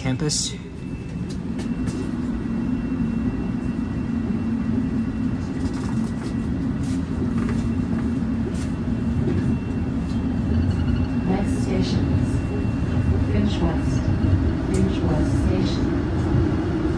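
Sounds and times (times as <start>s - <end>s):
subway train rumble: 0.0s - 16.9s.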